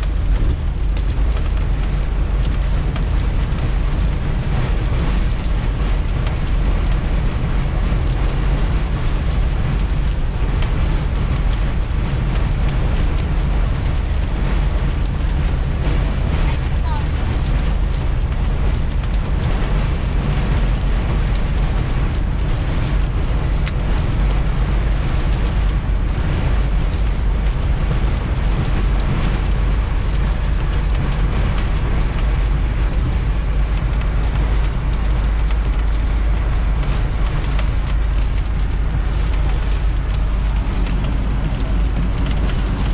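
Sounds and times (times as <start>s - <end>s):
rain on car: 0.0s - 42.9s
road and wind noise in car: 0.0s - 42.9s.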